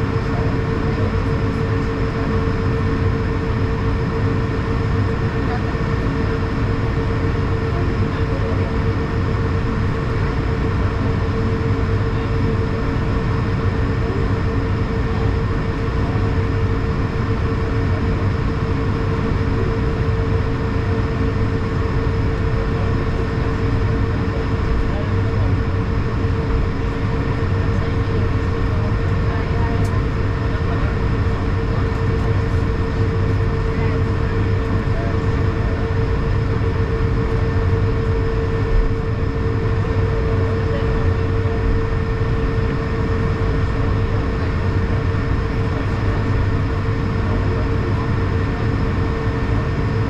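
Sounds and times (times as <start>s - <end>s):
jet engines rumbling in cabin: 0.0s - 50.0s
mid-pitched engine drone: 0.0s - 50.0s.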